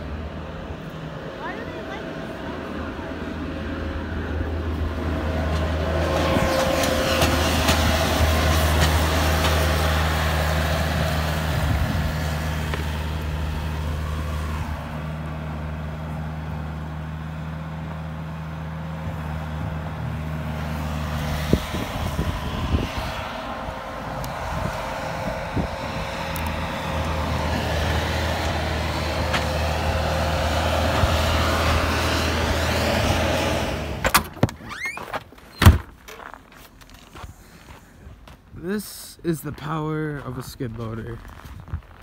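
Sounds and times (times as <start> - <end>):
skid loader engine running: 0.0 - 38.4.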